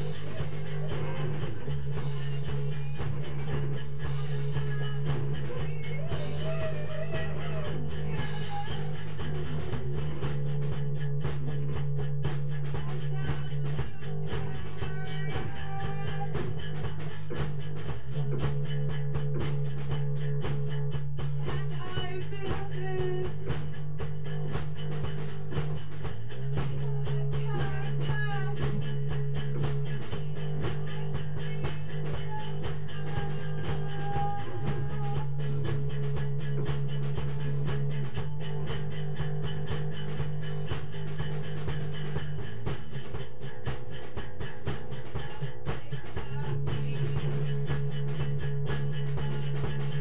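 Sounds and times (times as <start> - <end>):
steady rhythmic pulse: 0.0 - 50.0.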